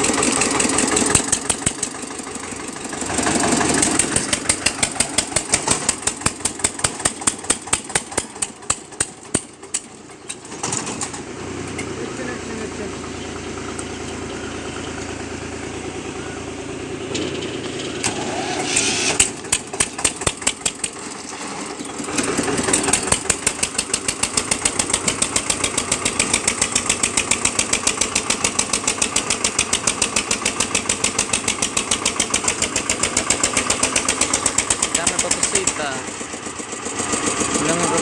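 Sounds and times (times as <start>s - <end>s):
tractor diesel engine chugging: 0.0s - 38.0s.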